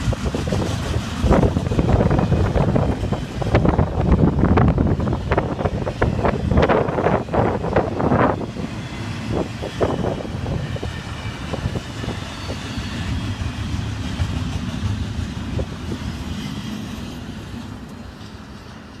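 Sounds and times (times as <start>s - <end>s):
freight train rolling on rails: 0.0s - 19.0s.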